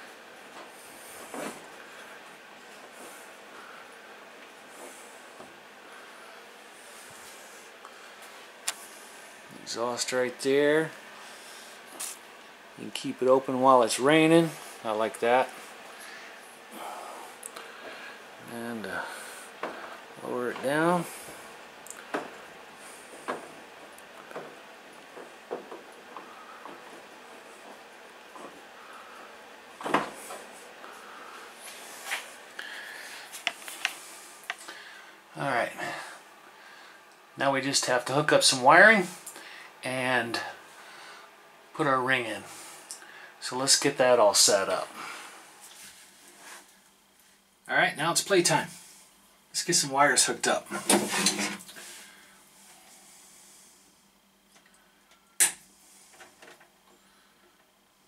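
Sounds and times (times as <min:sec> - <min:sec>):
faint room hiss: 0:00.0 - 0:58.0.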